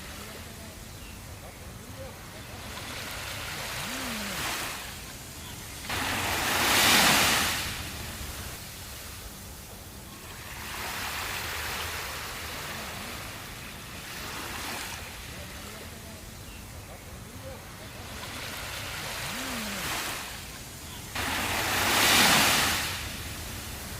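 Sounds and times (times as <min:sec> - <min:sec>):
sea waves crashing on beach: 0:00.0 - 0:23.9.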